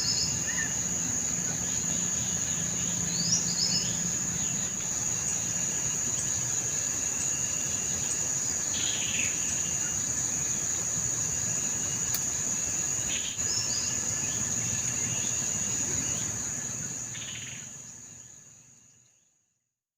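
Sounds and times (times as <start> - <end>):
crickets trilling: 0.0 - 19.3.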